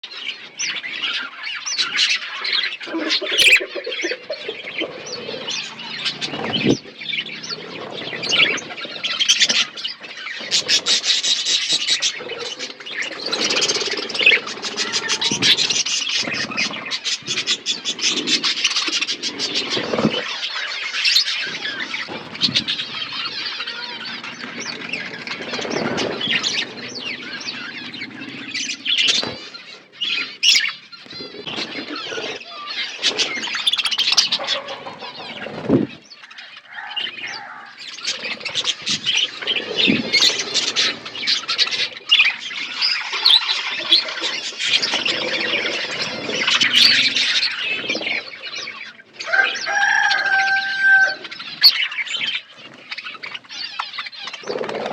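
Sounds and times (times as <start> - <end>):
budgerigars chirping and chattering: 0.1 - 54.9.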